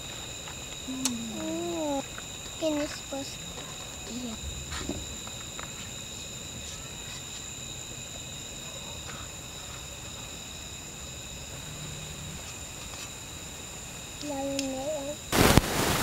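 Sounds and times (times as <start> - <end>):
night insects chirring: 0.0 - 16.0.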